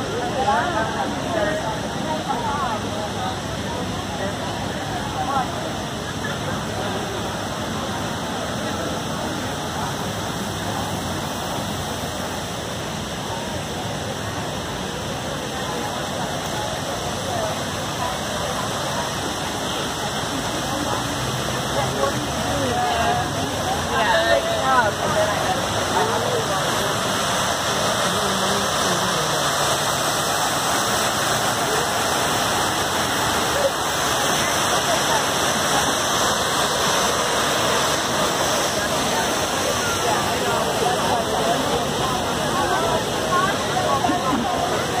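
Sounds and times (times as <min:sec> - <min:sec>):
waterfall roaring into pool: 0:00.0 - 0:45.0.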